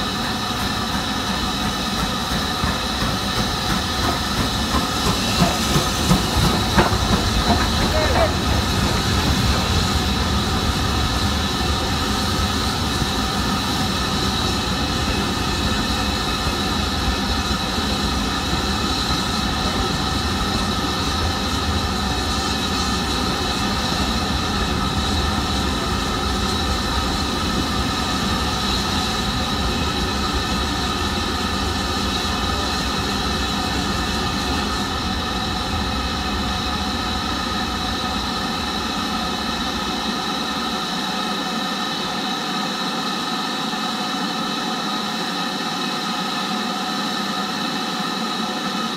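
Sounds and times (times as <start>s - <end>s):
steam train rumble and hiss: 0.0s - 48.9s.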